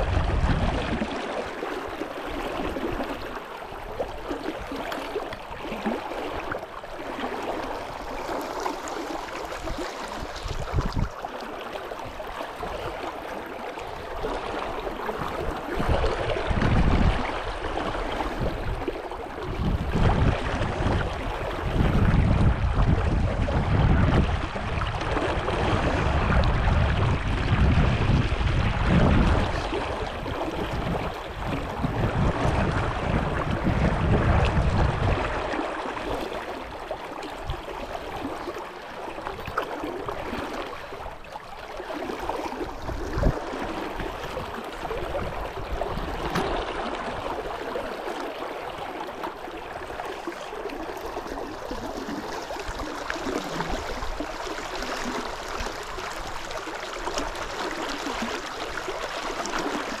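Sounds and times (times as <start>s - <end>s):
brook water rushing: 0.0s - 60.0s.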